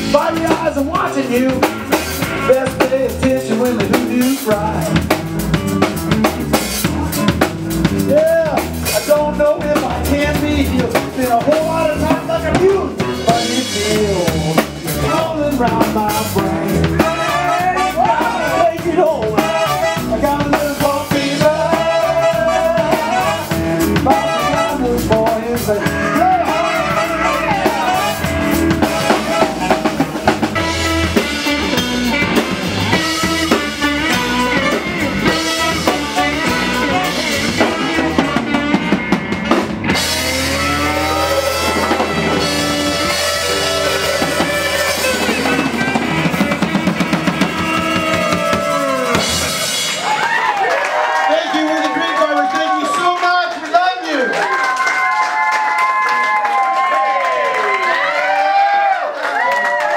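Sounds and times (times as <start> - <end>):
drum kit: 0.0 - 57.0
live band playing: 0.0 - 59.9.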